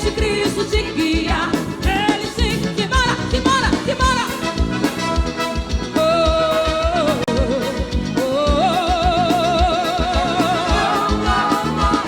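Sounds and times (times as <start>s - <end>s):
held vibrato melody: 0.0s - 12.0s
live band playing: 0.0s - 12.0s.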